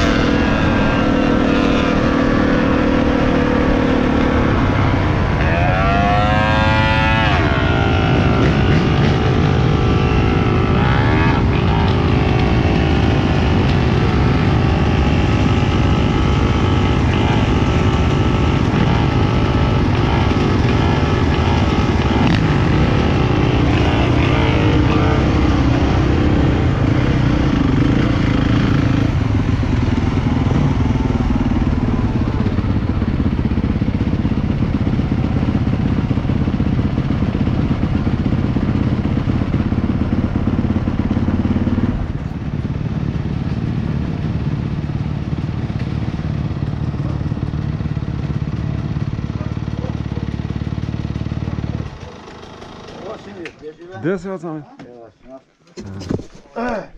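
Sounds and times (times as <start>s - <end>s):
dirt bike engines revving: 0.0s - 54.6s
dirt bike engines idling: 0.0s - 56.9s.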